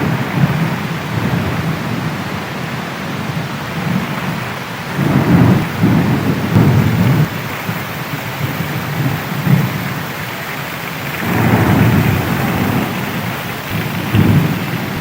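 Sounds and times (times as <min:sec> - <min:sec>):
thunder rumbling: 0:00.0 - 0:10.3, 0:11.0 - 0:15.0
heavy rain falling: 0:00.0 - 0:15.0.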